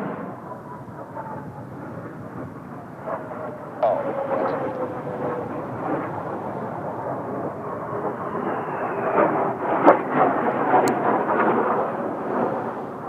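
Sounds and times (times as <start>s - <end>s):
jet engines passing low: 0.0s - 13.0s.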